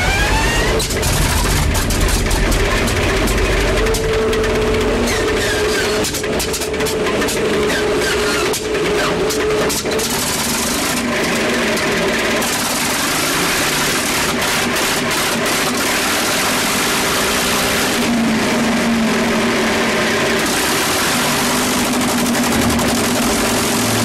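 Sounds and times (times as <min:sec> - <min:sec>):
piston aircraft engine running: 0:00.0 - 0:24.0.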